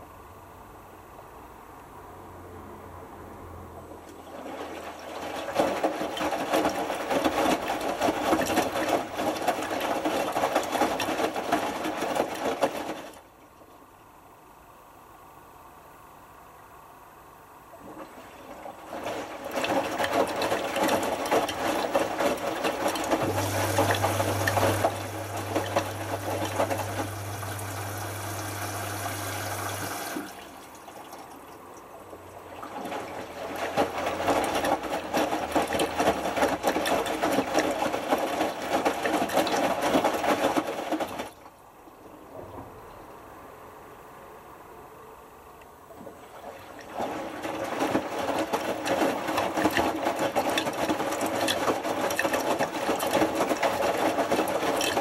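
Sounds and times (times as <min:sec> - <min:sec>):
washing machine drum sloshing: 0:04.0 - 0:14.0, 0:17.7 - 0:42.9, 0:45.9 - 0:55.0.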